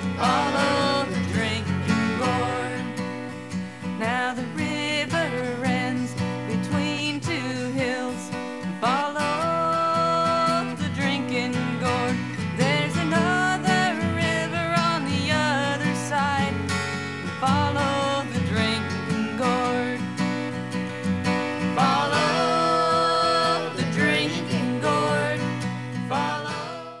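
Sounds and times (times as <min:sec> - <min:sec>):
acoustic guitar country music: 0:00.0 - 0:27.0.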